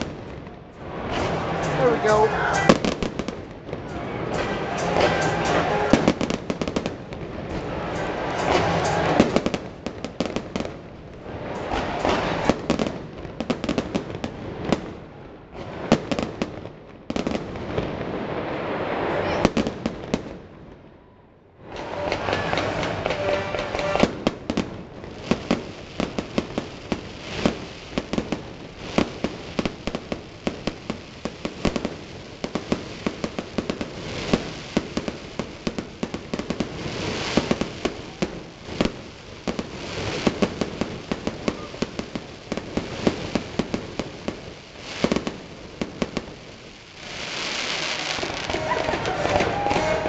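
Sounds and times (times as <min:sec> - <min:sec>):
fireworks bangs and crackling: 0:00.0 - 0:20.9, 0:21.6 - 0:50.0.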